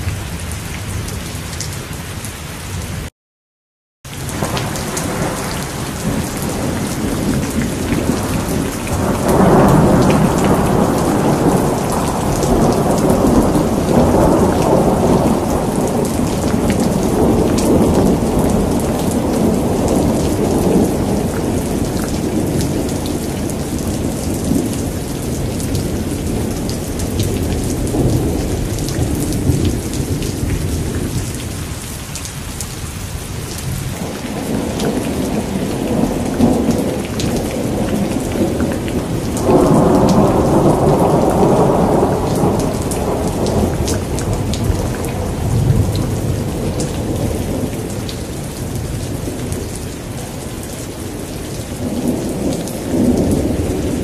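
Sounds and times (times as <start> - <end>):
rolling thunder rumble: 4.2 - 31.8, 33.5 - 54.0.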